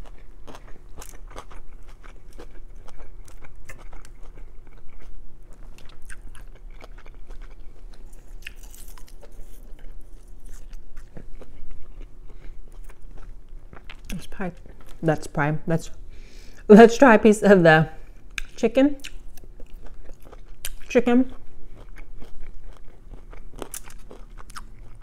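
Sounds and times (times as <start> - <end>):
chewing and mouth sounds: 0.0 - 15.0, 18.1 - 25.0.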